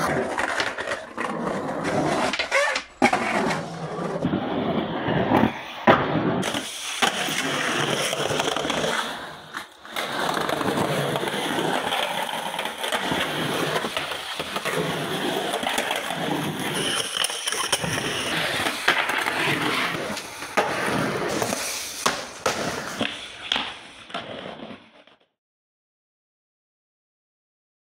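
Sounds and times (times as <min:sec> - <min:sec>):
skateboard clacking on surface: 0:00.0 - 0:03.7, 0:05.3 - 0:25.2
skateboard wheels rolling on concrete: 0:00.0 - 0:25.4.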